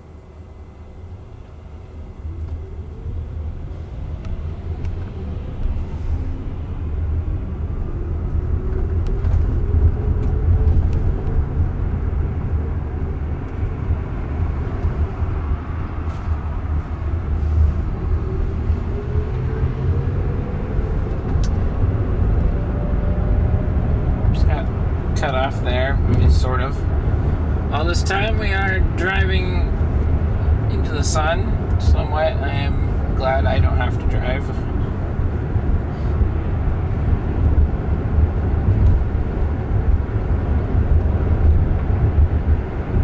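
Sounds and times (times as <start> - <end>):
road and tyre rumble: 0.0 - 43.0.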